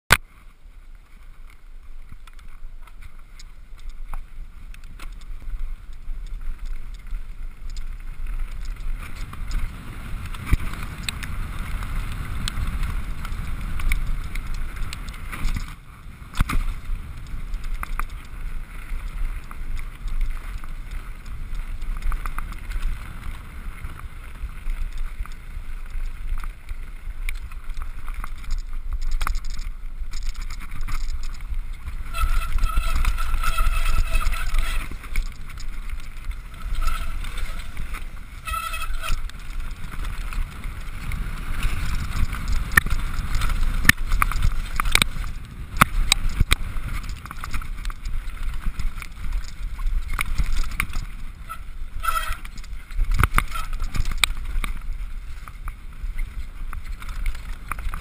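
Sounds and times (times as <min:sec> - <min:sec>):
bike tyres rumbling on dirt: 0:00.1 - 0:58.0
bike chain and frame rattling: 0:00.7 - 0:58.0
wind buffeting microphone: 0:04.9 - 0:58.0.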